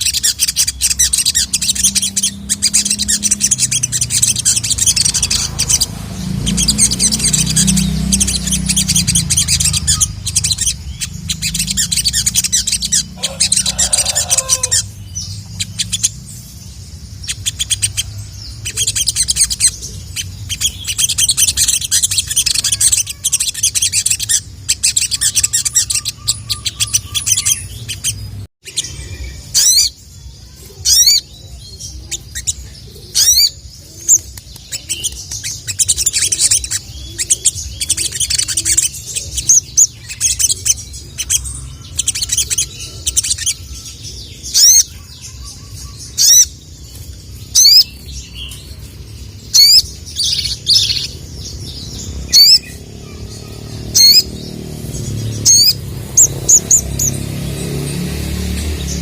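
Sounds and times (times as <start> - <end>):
bird singing fast trills: 0.0 - 59.0.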